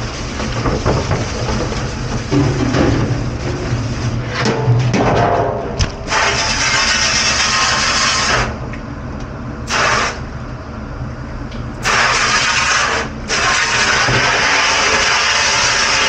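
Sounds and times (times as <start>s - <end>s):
loud mechanical rushing noise: 0.0s - 8.7s, 9.5s - 10.4s, 11.8s - 16.0s.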